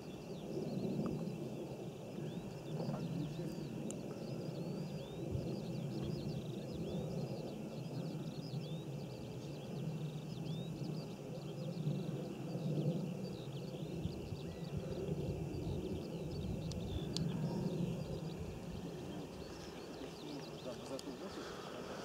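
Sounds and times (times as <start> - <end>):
small birds chirping and singing: 0.0 - 22.0.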